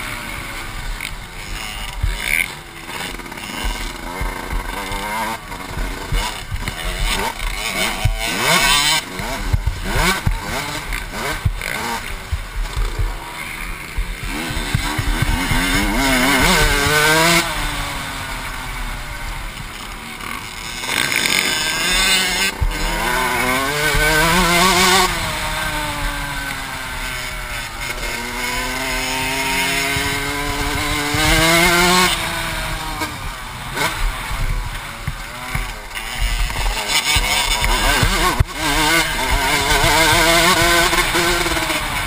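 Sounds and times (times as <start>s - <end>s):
motorbike engine accelerating: 0.0s - 42.0s.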